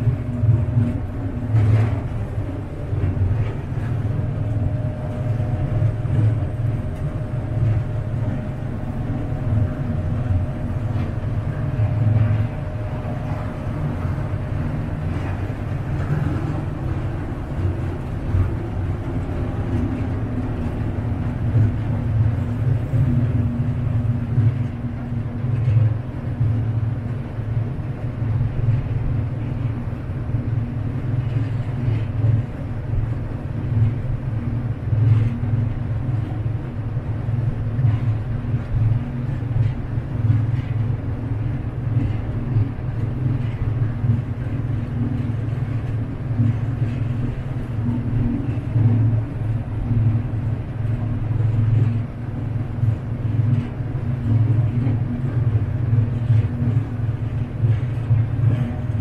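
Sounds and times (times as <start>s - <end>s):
boat engine droning: 0.0s - 59.0s
water rushing along hull: 0.0s - 59.0s.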